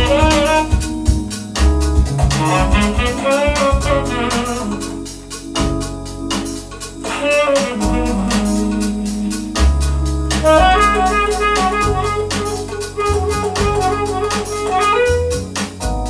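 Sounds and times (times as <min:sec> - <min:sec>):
music with beat and bass line: 0:00.0 - 0:16.0.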